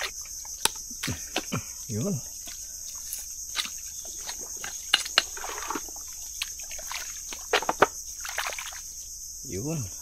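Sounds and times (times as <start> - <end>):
hands working wet mud: 0.0 - 9.0
high insect drone: 0.0 - 10.0.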